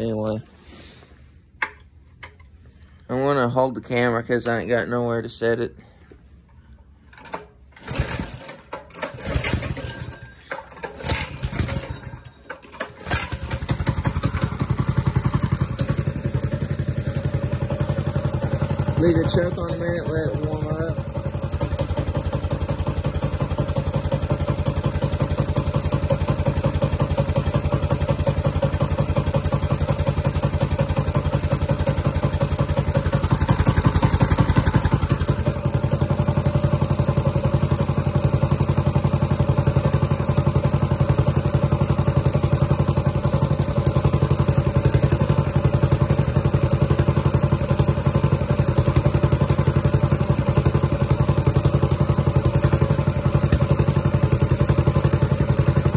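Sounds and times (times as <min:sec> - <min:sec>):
small gasoline engine running: 0:07.1 - 0:55.9.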